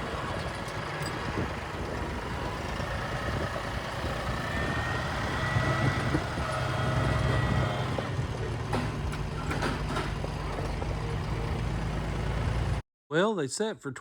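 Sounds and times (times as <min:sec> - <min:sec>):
engine humming: 0:00.0 - 0:12.8.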